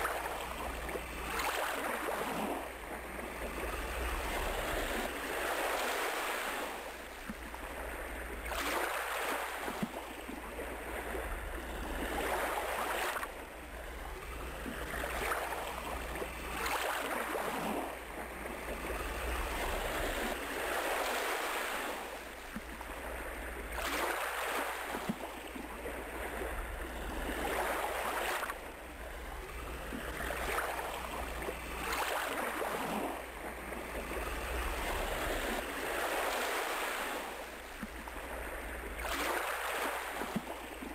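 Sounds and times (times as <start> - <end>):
ocean surf breaking on beach: 0.0 - 40.9.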